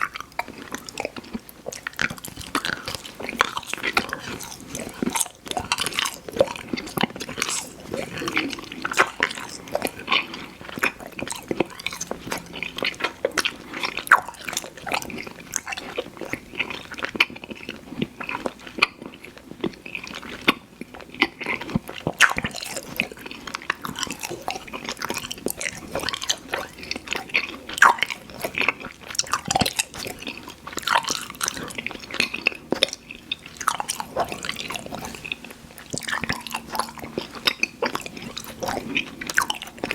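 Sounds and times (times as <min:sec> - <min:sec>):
wet chewing mouth smacks: 0:00.0 - 0:39.9.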